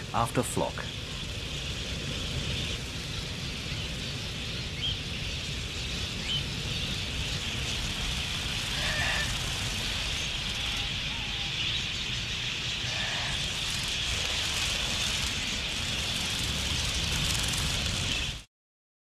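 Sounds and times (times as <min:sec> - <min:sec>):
flock of parakeets chattering: 0:00.1 - 0:18.4
low rumble: 0:00.9 - 0:18.5.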